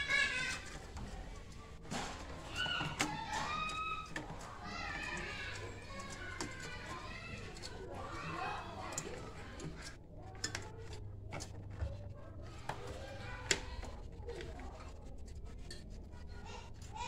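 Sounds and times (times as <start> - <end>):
hands clicking and rustling wiring: 0.0 - 17.0.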